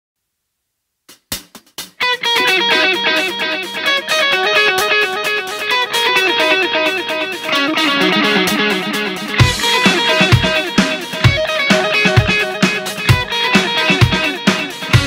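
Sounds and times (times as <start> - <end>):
electric guitar fast picked riff: 2.0 - 15.0.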